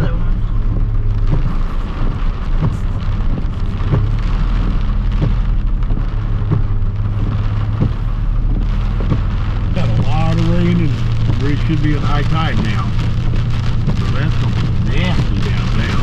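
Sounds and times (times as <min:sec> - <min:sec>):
truck engine and road drone: 0:00.0 - 0:16.0
water splashing against truck: 0:00.0 - 0:16.0.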